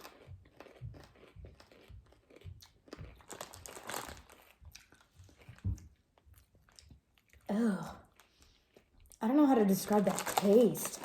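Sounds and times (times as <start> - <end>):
popcorn crunching while chewed: 0.0 - 11.0.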